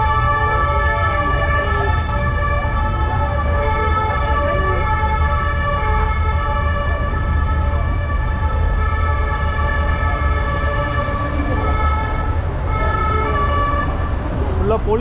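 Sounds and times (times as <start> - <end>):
emergency vehicle sirens: 0.0 - 15.0.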